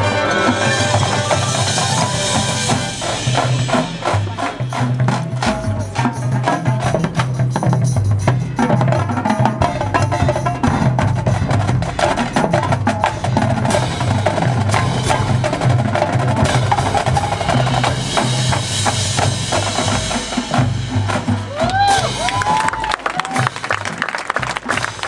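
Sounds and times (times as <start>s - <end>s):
bass drum notes: 0.0s - 23.8s
drumline strikes: 0.0s - 25.0s
front-ensemble percussion: 0.0s - 25.0s.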